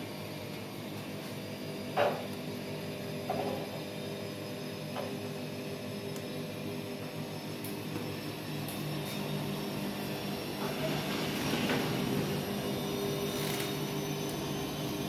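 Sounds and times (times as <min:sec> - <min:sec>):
washing machines humming: 0:00.0 - 0:15.0.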